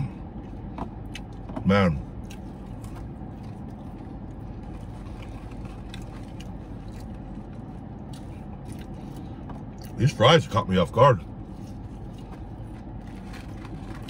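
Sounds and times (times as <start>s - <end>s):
low hum inside car: 0.0s - 14.0s
man chewing fries: 0.0s - 14.0s.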